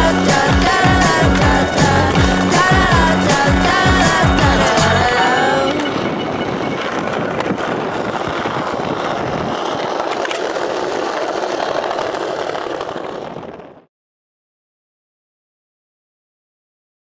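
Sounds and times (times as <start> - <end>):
skateboard clicks: 0.0 - 13.8
skateboard wheels rolling on paving: 0.0 - 13.9.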